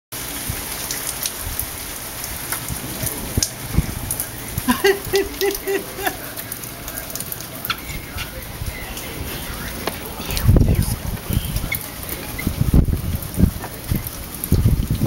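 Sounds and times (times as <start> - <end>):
steady rain falling: 0.1 - 15.0
sharp drips: 0.2 - 15.0.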